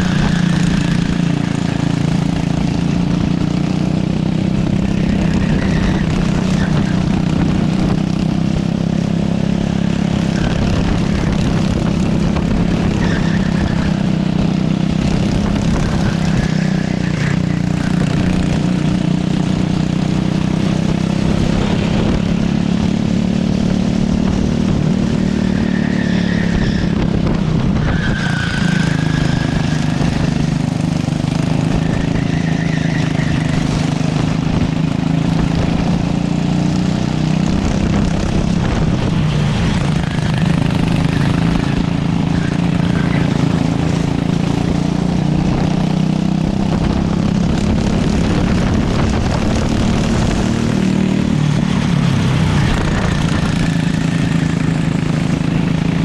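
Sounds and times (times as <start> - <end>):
racing kart engine running hard: 0.0 - 56.0.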